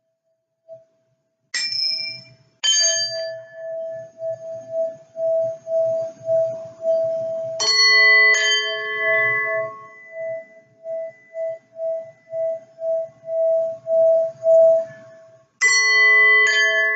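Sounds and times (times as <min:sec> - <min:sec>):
singing bowl tone: 0:01.6 - 0:16.9.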